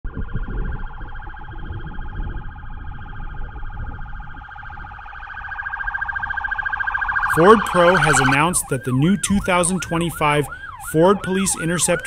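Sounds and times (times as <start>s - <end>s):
pulsing electronic siren: 0.0s - 12.0s.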